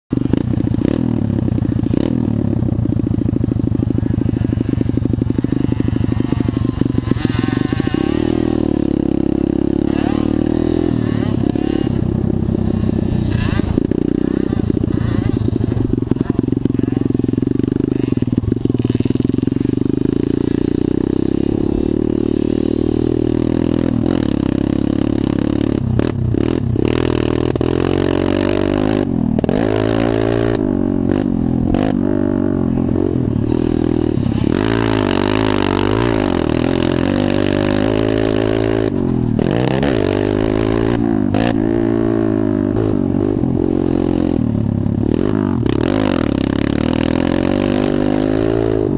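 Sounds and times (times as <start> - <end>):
dirt bike engine revving: 0.1 - 48.9.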